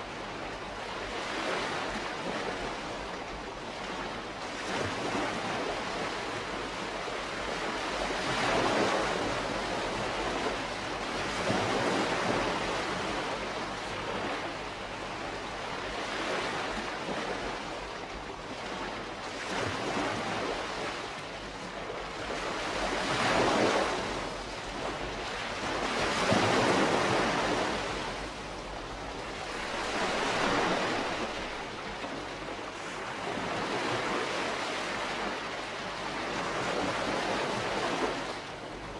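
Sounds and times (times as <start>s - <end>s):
small waves washing in: 0.0s - 38.9s.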